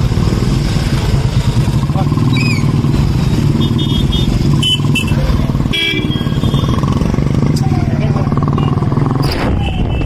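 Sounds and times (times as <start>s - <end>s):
motorcycle engine beat: 0.0s - 9.7s.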